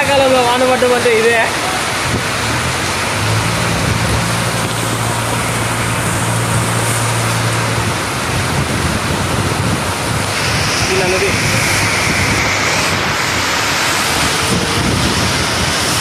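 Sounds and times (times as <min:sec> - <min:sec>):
diesel engine humming: 0:00.0 - 0:16.0
heavy rain pouring: 0:00.0 - 0:16.0
strong wind: 0:00.0 - 0:16.0.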